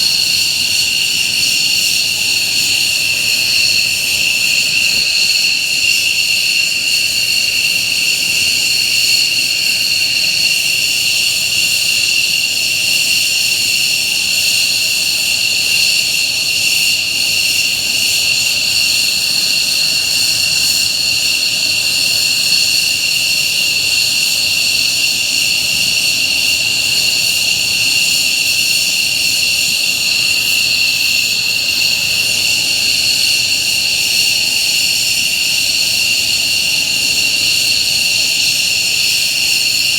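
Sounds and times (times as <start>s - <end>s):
jet engines high whine: 0.0s - 39.8s.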